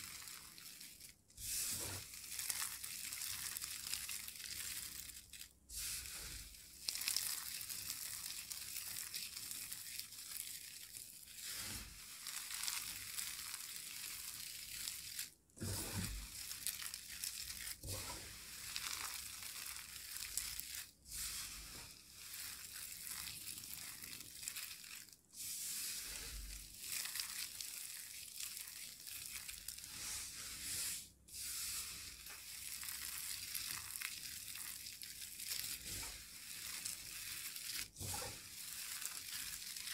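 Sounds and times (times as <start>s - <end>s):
hands crunching soap crumbs and foil: 0.0s - 15.4s, 16.0s - 30.7s, 31.4s - 39.9s.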